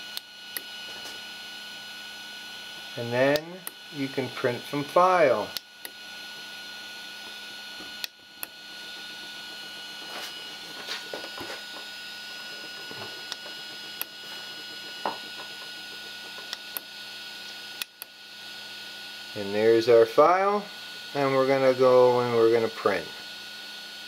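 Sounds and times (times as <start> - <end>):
fans humming: 0.0 - 24.0.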